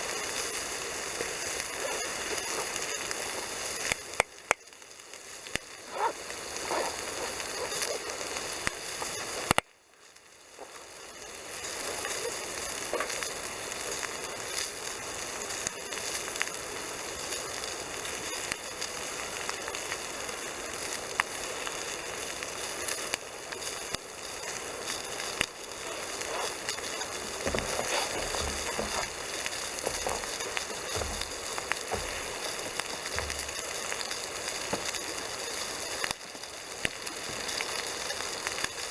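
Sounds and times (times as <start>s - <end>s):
meat sizzling in a frying pan: 0.0s - 38.9s
wood fire crackling: 0.0s - 38.9s.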